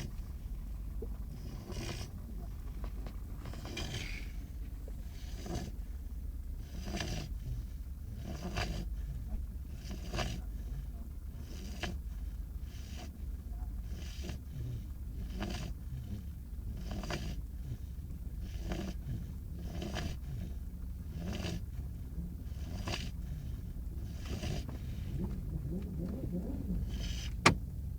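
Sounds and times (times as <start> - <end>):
puppy snoring: 0.0 - 27.9
steady low hum: 0.0 - 27.9.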